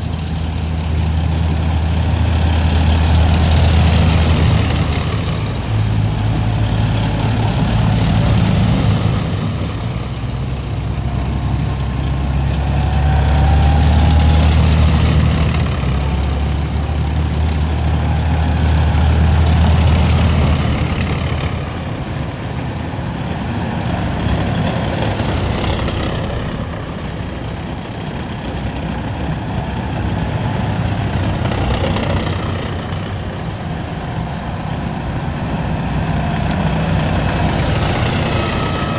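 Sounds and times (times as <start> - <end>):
heavy vehicles driving past: 0.0 - 38.9.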